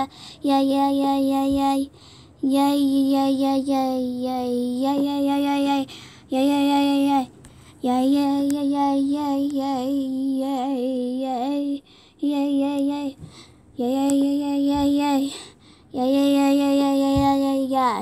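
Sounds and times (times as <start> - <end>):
girl singing long notes: 0.0 - 18.0.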